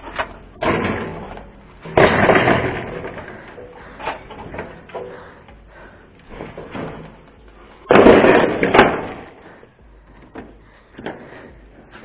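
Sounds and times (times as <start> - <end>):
metal swing frame clanking: 0.0 - 12.0.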